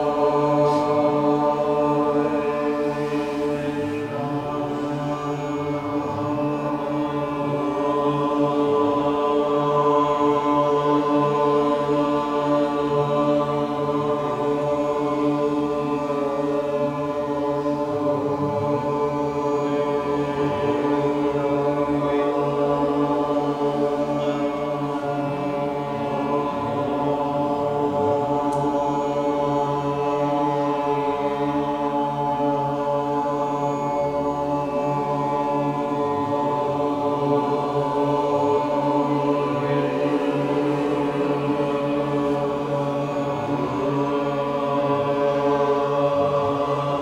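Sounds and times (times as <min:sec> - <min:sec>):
group chanting a drone: 0:00.0 - 0:47.0.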